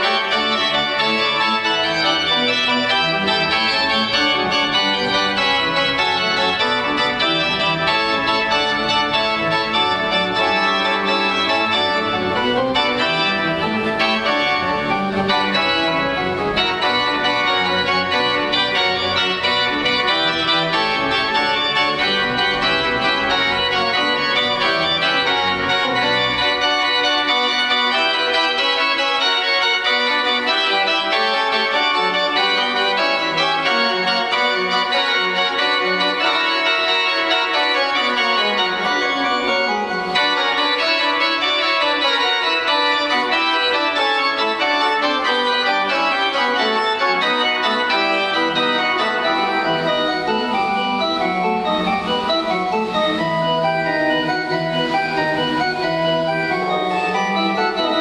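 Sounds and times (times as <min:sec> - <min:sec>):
church pipe organ playing: 0:00.0 - 0:58.0
deep organ pedal bass: 0:00.2 - 0:28.8, 0:29.5 - 0:58.0.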